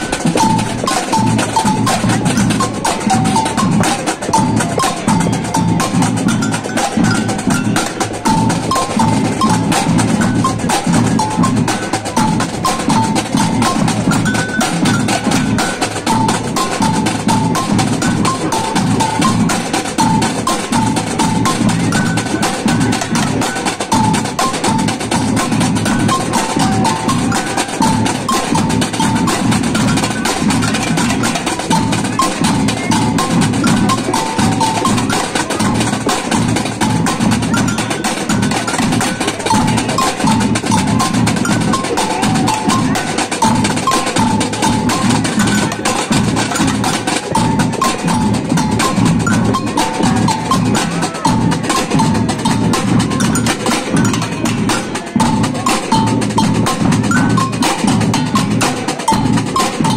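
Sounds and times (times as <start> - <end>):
samba drum band playing: 0.0 - 59.9.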